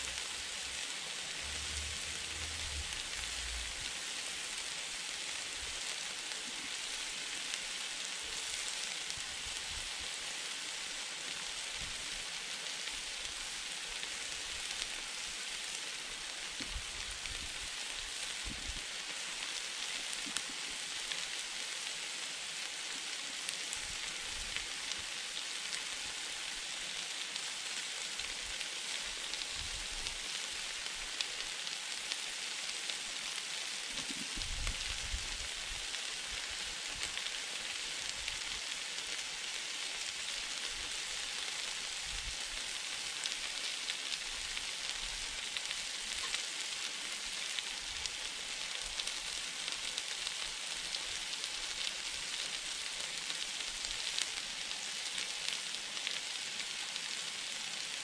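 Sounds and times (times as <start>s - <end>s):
food sizzling on griddle: 0.0s - 58.0s.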